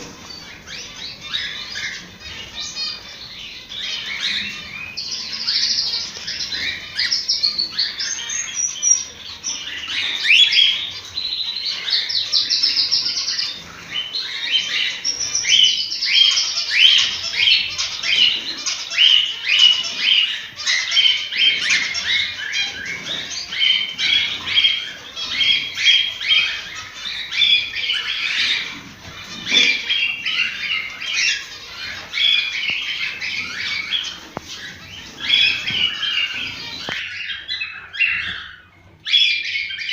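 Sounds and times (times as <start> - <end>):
cockatiels chirping and whistling: 0.0 - 39.9.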